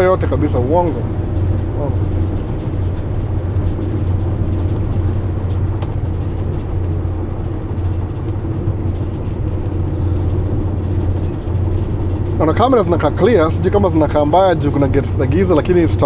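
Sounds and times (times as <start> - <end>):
road noise: 0.0 - 16.0
vehicle engine drone: 0.0 - 16.0.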